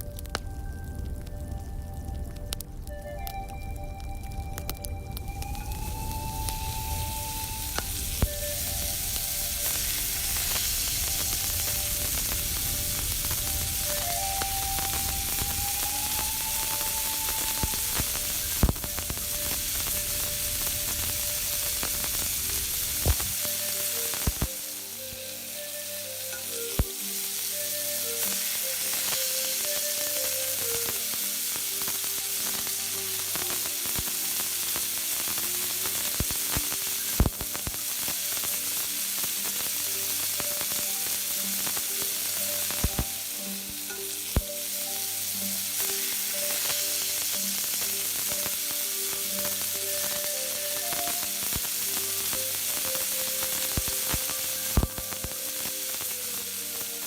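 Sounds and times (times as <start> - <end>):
food sizzling in hot fat: 0.0 - 57.0.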